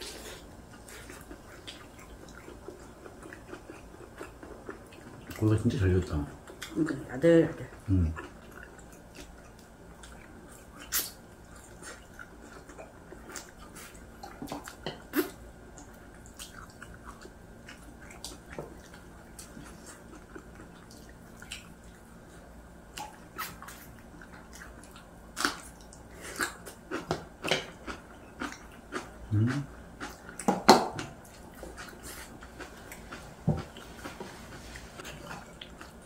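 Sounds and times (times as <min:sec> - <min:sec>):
faint steady hum: 0:00.0 - 0:36.0
lip smacks and chewing: 0:00.2 - 0:05.4, 0:07.7 - 0:34.2, 0:35.0 - 0:36.0.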